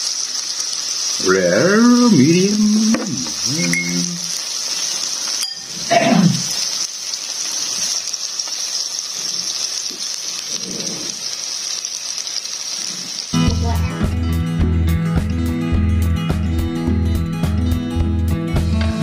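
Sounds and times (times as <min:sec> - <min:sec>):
meat sizzling on a grill pan: 0:00.0 - 0:15.6.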